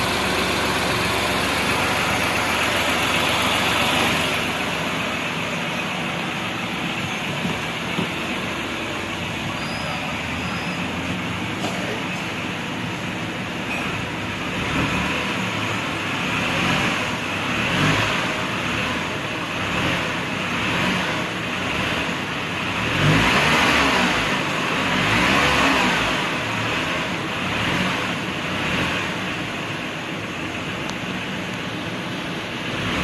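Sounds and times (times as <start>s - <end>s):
car engine revving: 0.0s - 30.9s, 32.2s - 33.0s.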